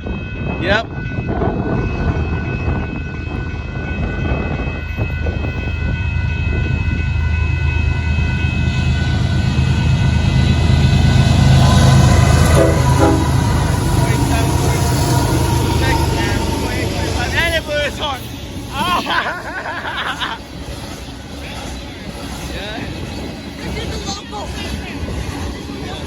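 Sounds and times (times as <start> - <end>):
locomotive engine rumble: 0.0 - 26.0.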